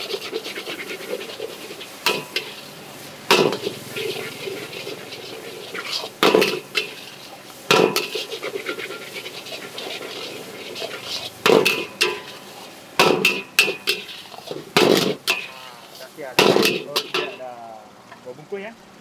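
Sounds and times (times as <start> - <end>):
frying hiss: 0.0 - 19.0
metal spatula clanging on wok: 0.1 - 17.5.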